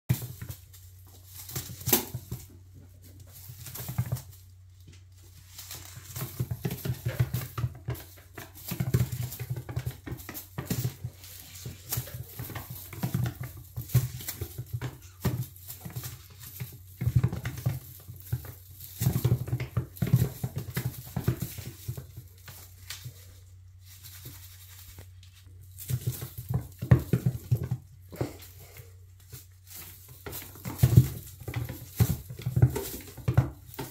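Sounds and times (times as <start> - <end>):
toy knocking and rustling: 0.1 - 33.9.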